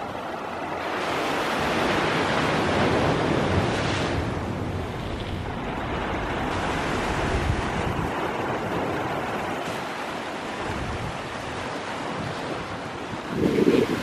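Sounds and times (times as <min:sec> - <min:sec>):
waves breaking on rocks: 0:00.0 - 0:14.0
wind rumbling on microphone: 0:00.0 - 0:14.0.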